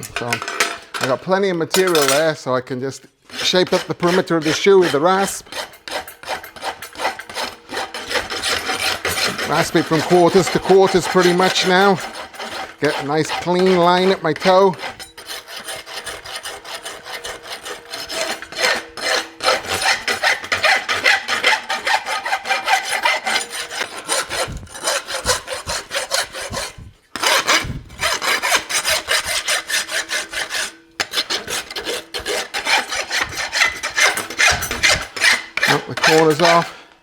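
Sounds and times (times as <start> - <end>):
rasp filing steel horseshoe: 0.0 - 2.4, 3.3 - 37.0.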